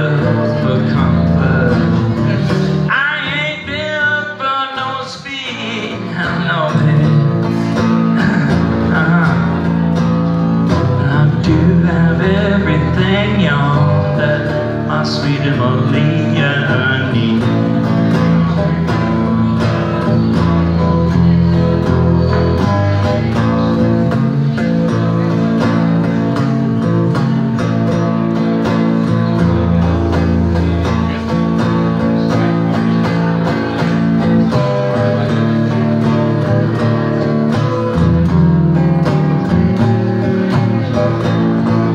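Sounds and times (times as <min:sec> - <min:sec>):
blues electric guitar: 0:00.0 - 0:41.9.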